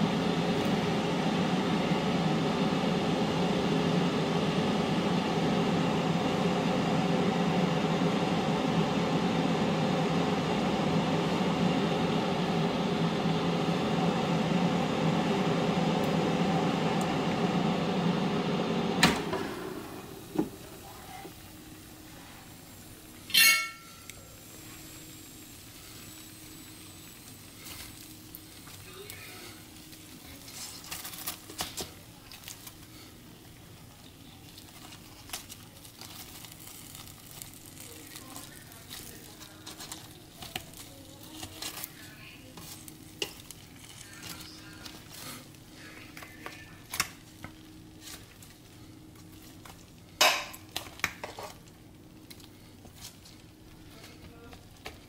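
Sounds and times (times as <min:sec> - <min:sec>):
chicken sizzling in air fryer: 0:00.0 - 0:55.0.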